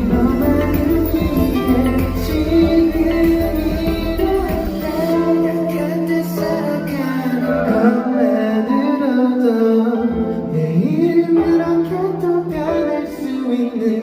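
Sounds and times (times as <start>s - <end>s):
live band accompaniment: 0.0s - 14.0s
person singing: 0.0s - 14.0s.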